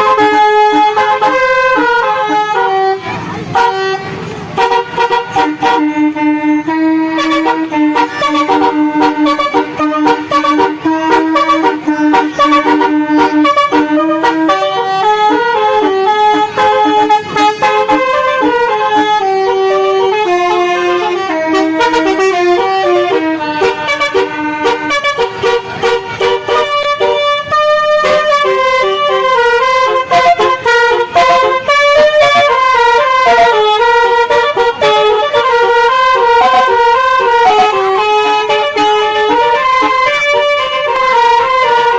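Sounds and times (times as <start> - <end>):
musical vehicle horns playing melody: 0.0 - 41.9.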